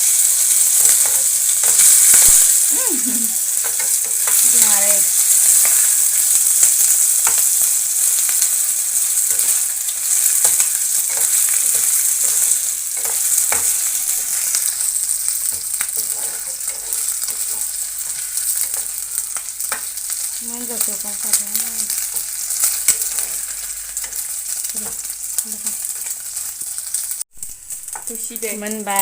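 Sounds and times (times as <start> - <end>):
chicken sizzling in hot oil: 0.0 - 29.0
spatula scraping pan: 0.1 - 26.8.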